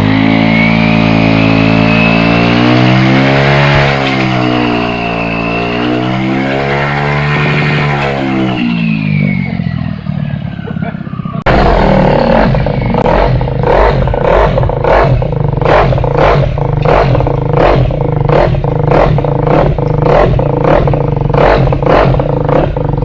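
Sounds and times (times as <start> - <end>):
engine running with clattering beat: 0.0 - 23.0.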